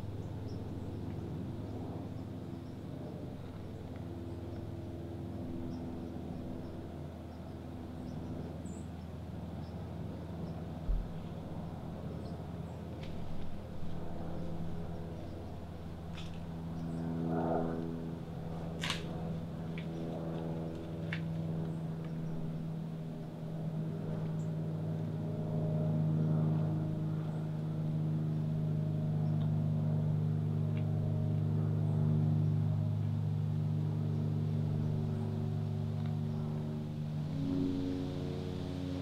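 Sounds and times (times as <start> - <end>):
low mechanical drone: 0.0 - 39.0.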